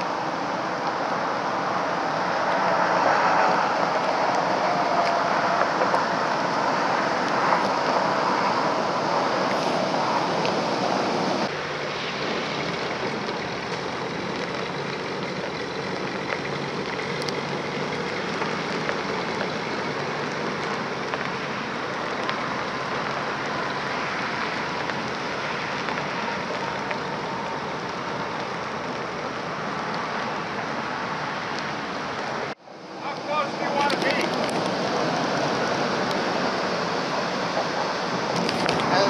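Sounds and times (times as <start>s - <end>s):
truck engine running steadily: 0.0s - 39.0s
tyres rolling over gravel: 0.0s - 39.0s.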